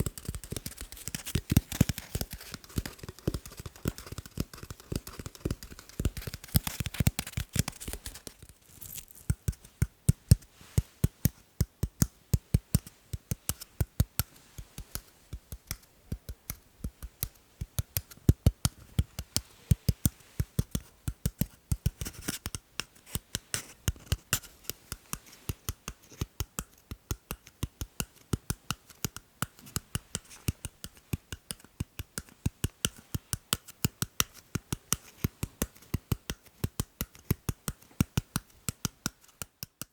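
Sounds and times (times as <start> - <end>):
sharp rhythmic tapping: 0.0 - 39.9.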